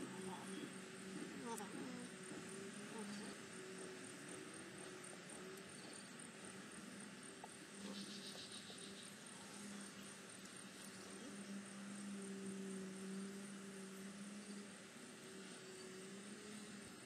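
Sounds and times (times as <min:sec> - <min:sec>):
faint hiss: 0:00.0 - 0:17.0
insect chirping trill: 0:00.0 - 0:17.0.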